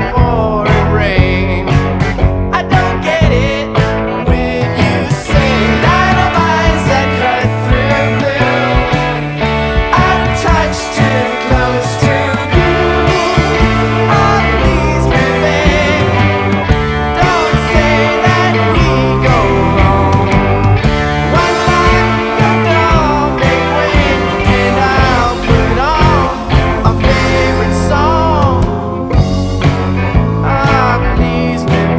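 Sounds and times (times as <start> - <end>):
rock band playing: 0.0 - 31.9.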